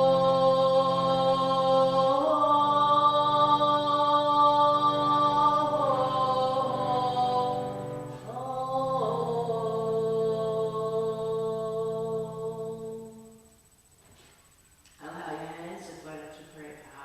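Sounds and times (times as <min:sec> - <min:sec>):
voice chanting sustained tones: 0:00.0 - 0:13.8.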